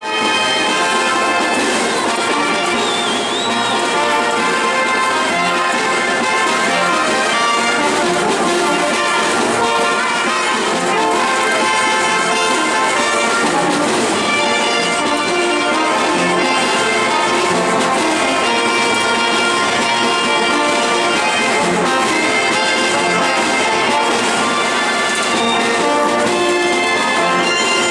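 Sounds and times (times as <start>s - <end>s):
brass band playing: 0.0s - 27.9s.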